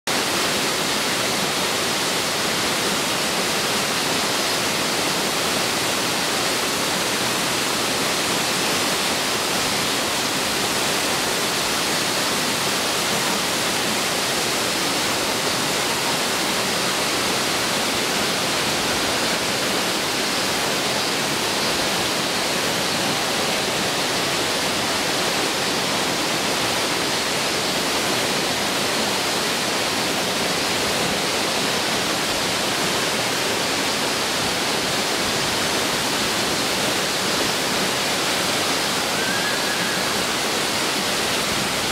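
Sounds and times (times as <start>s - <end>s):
waterfall rushing into pool: 0.0s - 41.9s.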